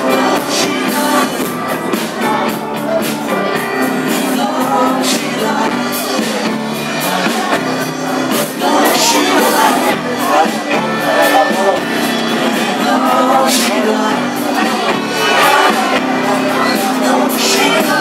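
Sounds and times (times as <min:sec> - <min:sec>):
drums: 0:00.0 - 0:18.0
live pop-rock band: 0:00.0 - 0:18.0
person singing: 0:00.0 - 0:18.0.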